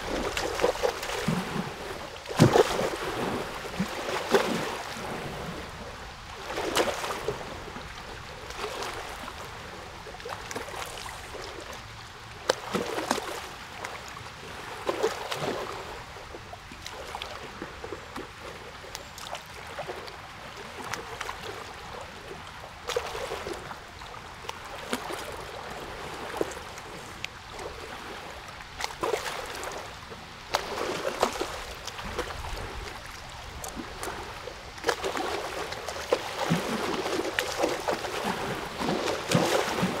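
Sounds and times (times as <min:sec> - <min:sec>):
water lapping and splashing: 0:00.0 - 0:40.0.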